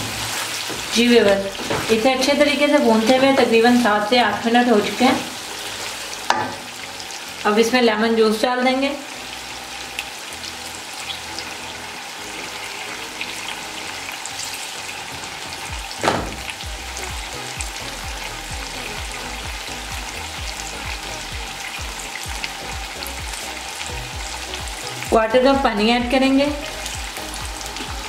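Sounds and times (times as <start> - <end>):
chicken sizzling in hot oil: 0.0 - 28.0.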